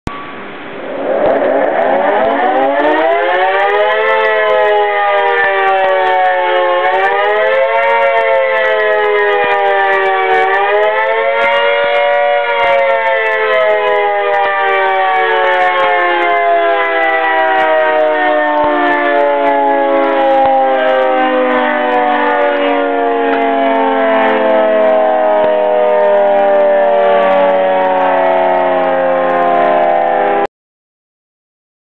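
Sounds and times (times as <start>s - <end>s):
emergency siren wailing: 0.1s - 30.5s.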